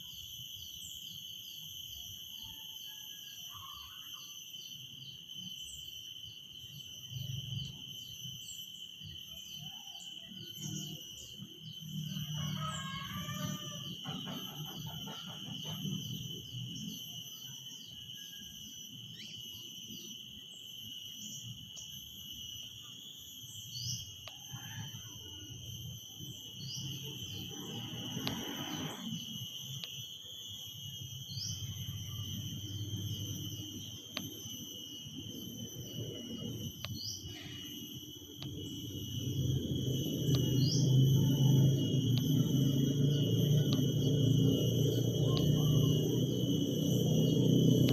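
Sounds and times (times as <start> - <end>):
cicadas droning: 0.0 - 47.9.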